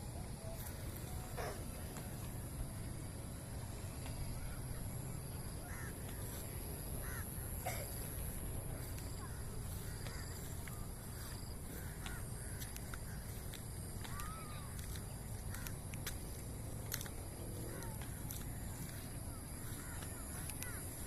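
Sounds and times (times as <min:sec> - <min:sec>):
birds calling: 0:00.0 - 0:21.0
steady low rumble: 0:00.0 - 0:21.0.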